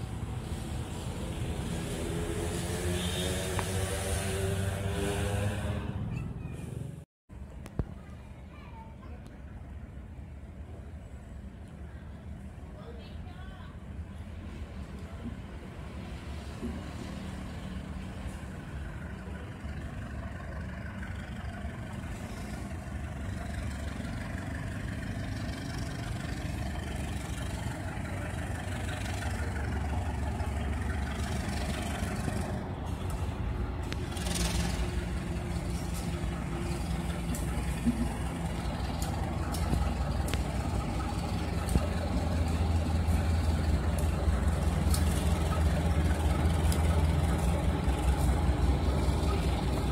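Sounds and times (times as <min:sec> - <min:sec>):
diesel locomotive engine rumble: 0:00.0 - 0:49.9.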